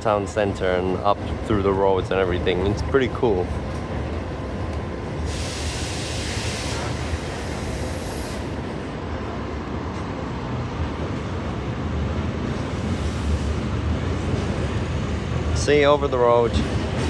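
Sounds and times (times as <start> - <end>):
train rumbling in motion: 0.0 - 17.0.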